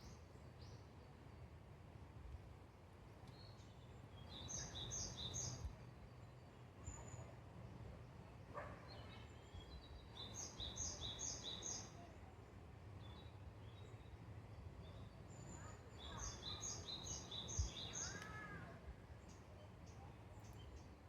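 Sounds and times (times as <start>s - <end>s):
faint steady outdoor hum: 0.0s - 21.0s
songbird singing: 0.0s - 21.0s.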